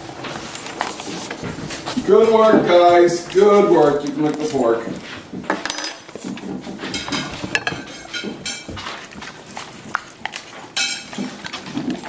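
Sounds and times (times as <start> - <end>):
dog claws clicking on floor: 0.2 - 12.0.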